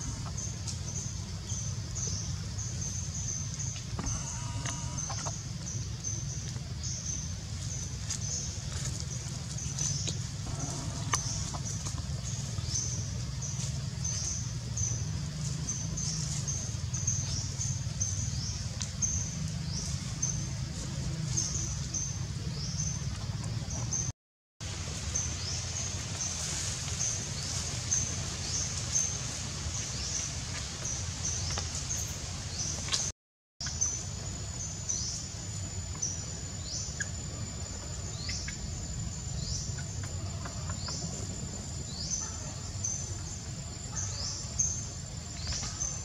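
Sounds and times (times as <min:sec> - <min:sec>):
steady low hum: 0:00.0 - 0:24.1, 0:24.7 - 0:46.0.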